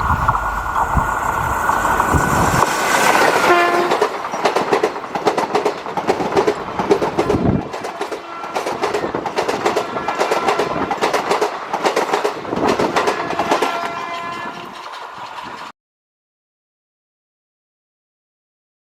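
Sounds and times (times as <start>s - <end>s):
train wheels clattering: 0.0s - 15.7s.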